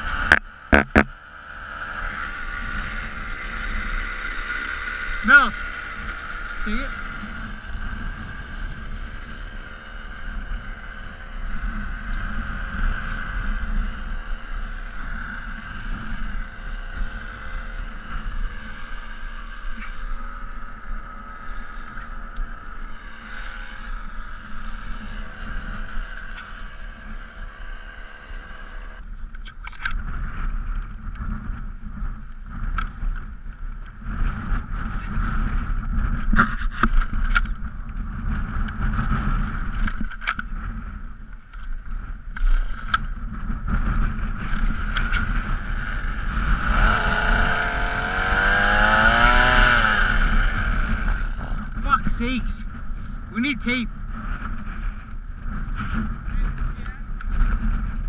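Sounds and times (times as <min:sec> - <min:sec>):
low rumble: 0:00.0 - 0:58.0
mechanical drone: 0:00.0 - 0:58.0.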